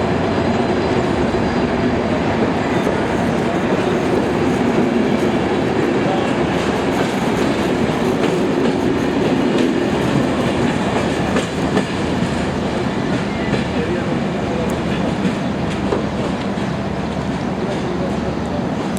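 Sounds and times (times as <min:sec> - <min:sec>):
passenger train rumbling past: 0:00.0 - 0:18.9
wheels clicking over rail joints: 0:02.7 - 0:18.9.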